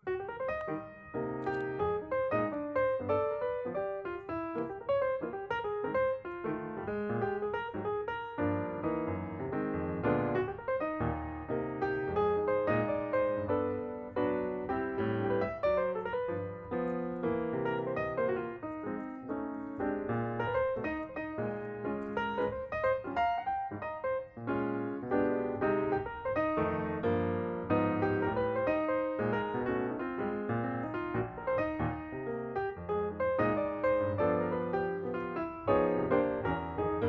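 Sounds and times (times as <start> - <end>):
piano piece with quick notes: 0.0 - 37.0.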